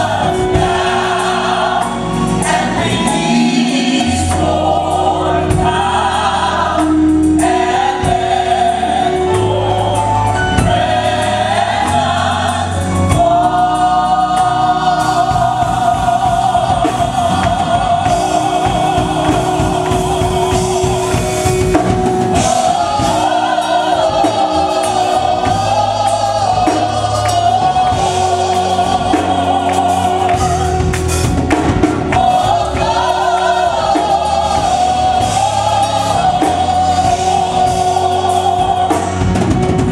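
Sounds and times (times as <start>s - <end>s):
band with drums and bass: 0.0s - 39.9s
choir singing: 0.0s - 39.9s.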